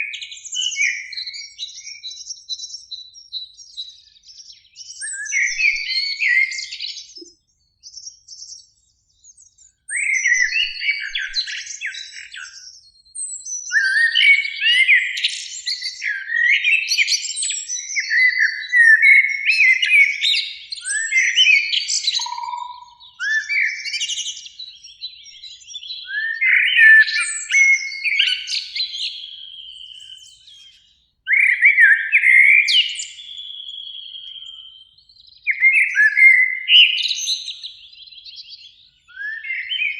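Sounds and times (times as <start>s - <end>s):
blackbird singing: 0.0s - 39.9s.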